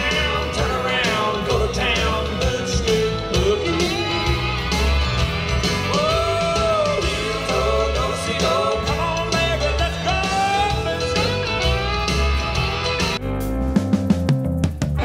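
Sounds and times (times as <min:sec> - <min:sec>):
country dance song with singing: 0:00.0 - 0:13.2.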